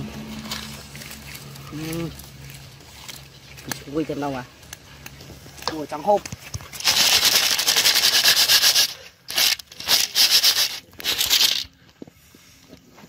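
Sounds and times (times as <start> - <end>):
leaves stirred in metal pot: 0.0 - 11.6.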